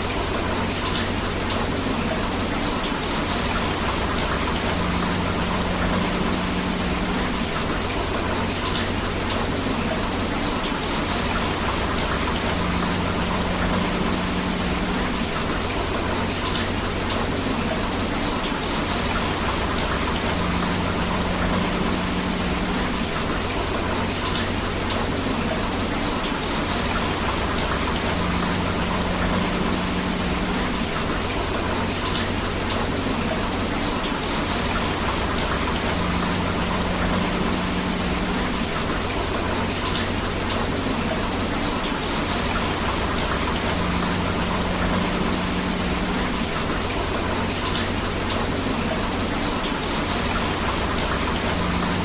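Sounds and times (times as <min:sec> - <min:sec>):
flowing river water: 0:00.0 - 0:52.0
steady rain: 0:00.0 - 0:52.0.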